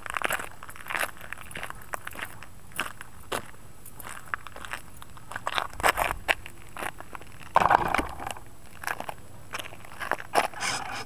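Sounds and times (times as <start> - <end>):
gravel crunching and scraping: 0.0 - 11.0.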